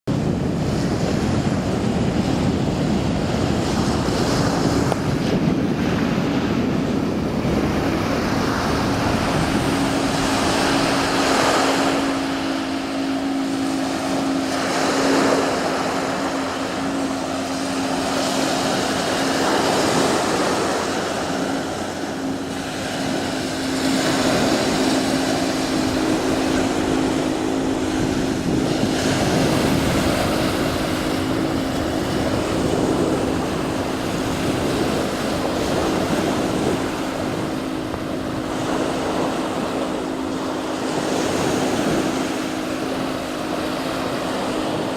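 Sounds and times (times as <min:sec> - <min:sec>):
engine drone: 0:00.1 - 0:44.9
surf waves washing on beach: 0:00.1 - 0:44.9
wind buffeting microphone: 0:00.1 - 0:44.9.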